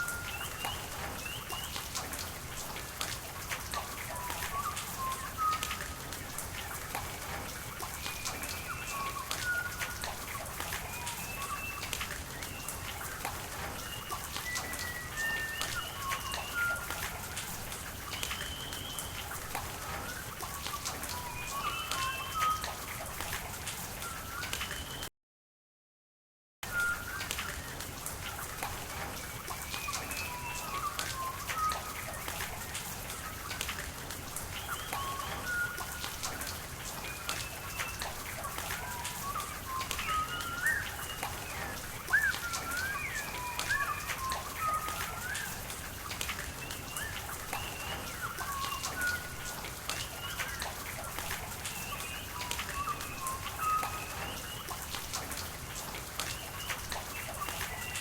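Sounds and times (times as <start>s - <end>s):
rain pattering: 0.0s - 25.1s, 26.6s - 58.0s.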